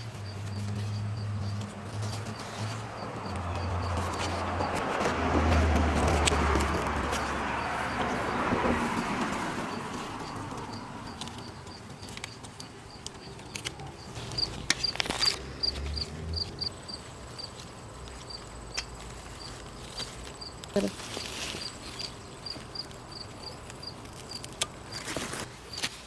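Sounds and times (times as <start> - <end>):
insect chirping: 0.0 - 4.8, 7.2 - 24.6.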